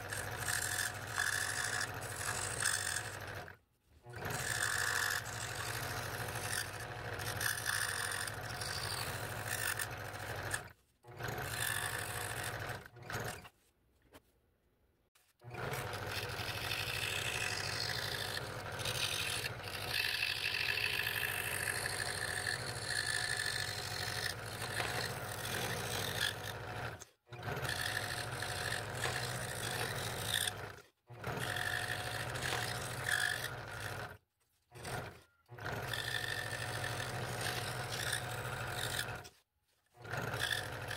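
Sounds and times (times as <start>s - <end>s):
scroll saw cutting wood: 0.0s - 13.7s, 15.2s - 40.9s.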